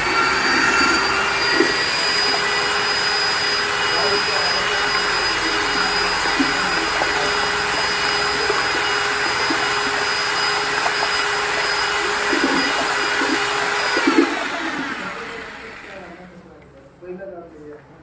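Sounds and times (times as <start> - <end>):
electric power tool whining: 0.0 - 16.3.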